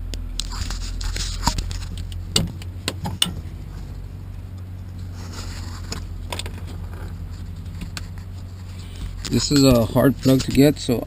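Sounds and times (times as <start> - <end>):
steady low hum: 0.0 - 11.0
light scraping: 0.4 - 2.3, 3.0 - 11.0.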